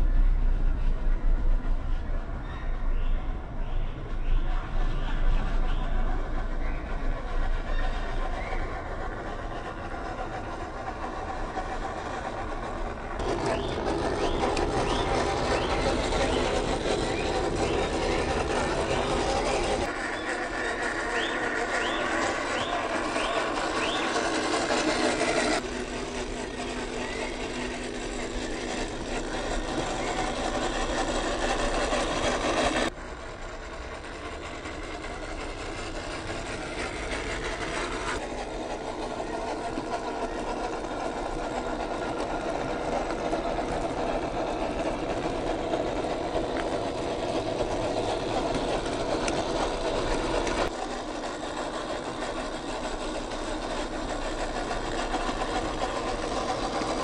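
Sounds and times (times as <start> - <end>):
toy car motor whining on gravel: 7.2 - 57.0.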